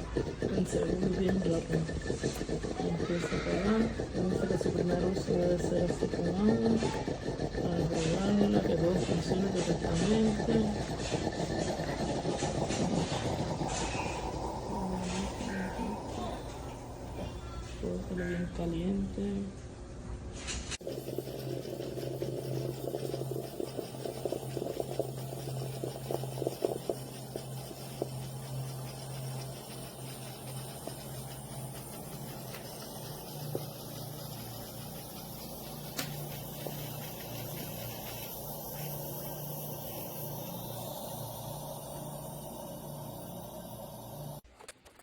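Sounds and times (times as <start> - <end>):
espresso machine bubbling and sputtering: 0.0 - 19.2, 20.7 - 44.5
low machine hum: 0.0 - 44.4.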